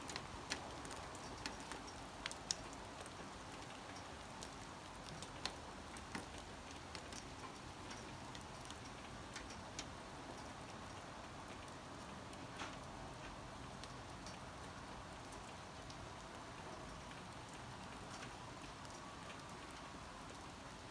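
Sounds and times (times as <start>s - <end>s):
light rain hiss: 0.0s - 20.9s
raindrops ticking on a surface: 0.0s - 20.9s.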